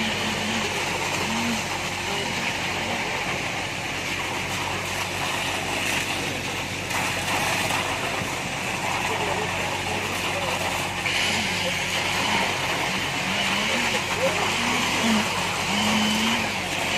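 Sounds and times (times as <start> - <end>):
truck engine humming with hiss: 0.0 - 16.9.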